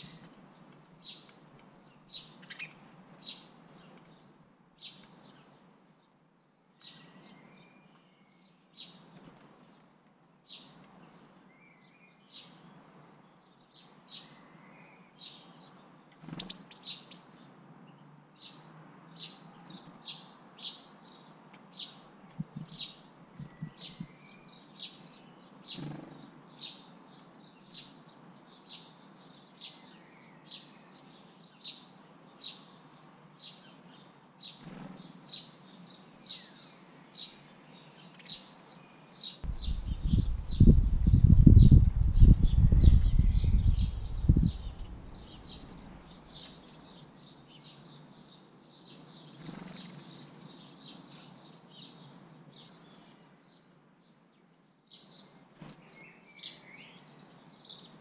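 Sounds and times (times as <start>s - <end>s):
sparrow chirping: 0.0s - 5.8s, 6.4s - 9.8s, 10.4s - 58.0s.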